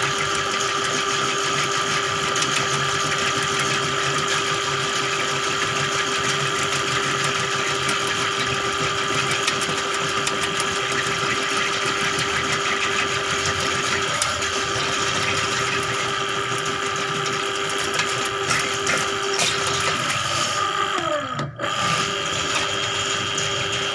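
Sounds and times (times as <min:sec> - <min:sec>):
drain cleaning machine running: 0:00.0 - 0:23.9.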